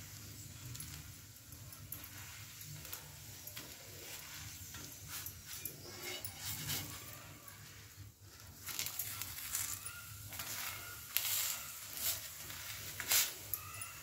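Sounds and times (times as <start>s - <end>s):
metal spatula scraping on griddle: 1.8s - 14.0s.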